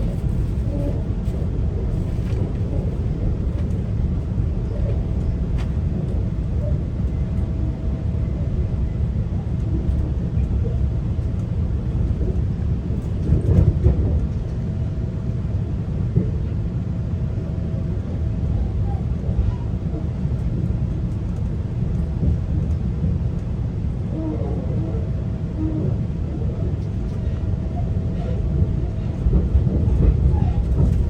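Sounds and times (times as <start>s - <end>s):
train coach rumble on track: 0.0s - 31.0s.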